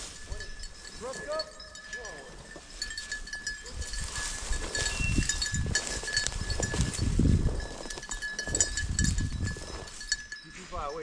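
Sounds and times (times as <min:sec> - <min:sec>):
dog bells jingling: 0:00.0 - 0:11.0
footsteps rustling through field cover: 0:00.0 - 0:11.0.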